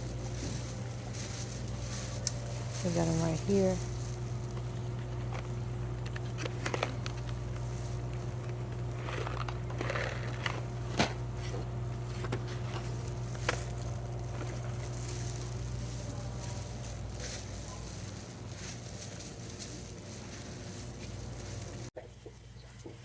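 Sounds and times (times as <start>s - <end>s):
rustle of items handled: 0.0s - 10.6s, 11.3s - 23.0s
steady low hum: 0.0s - 23.0s.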